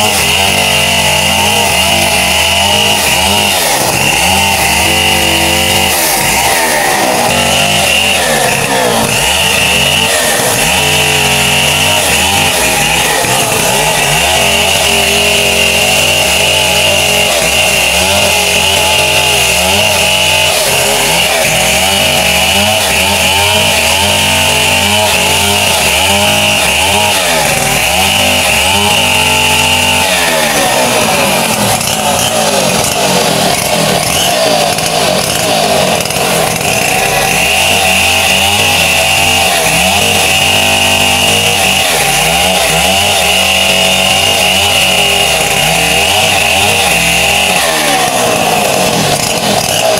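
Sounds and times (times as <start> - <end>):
chainsaw cutting log: 0.0 - 49.9.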